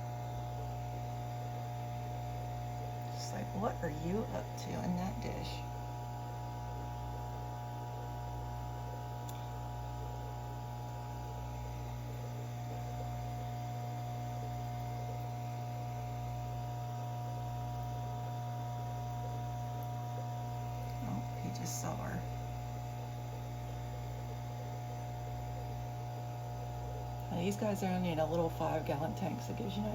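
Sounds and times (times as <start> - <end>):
low electrical hum: 0.0 - 29.9.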